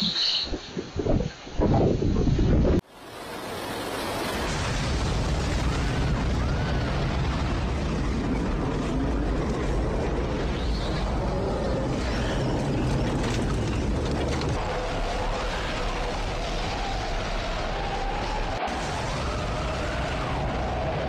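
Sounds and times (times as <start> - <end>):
driving rain: 2.8 - 21.0.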